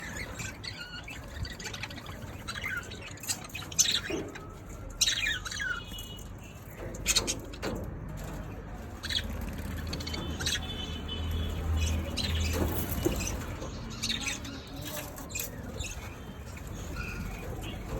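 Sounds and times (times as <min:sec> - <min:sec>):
budgerigars chirping and squawking: 0:00.0 - 0:17.9.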